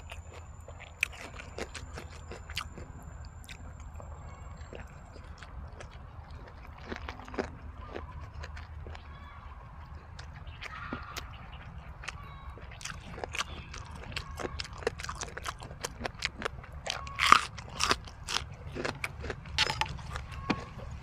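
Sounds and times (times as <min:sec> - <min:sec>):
crisp chewing crunches: 0:00.0 - 0:21.0.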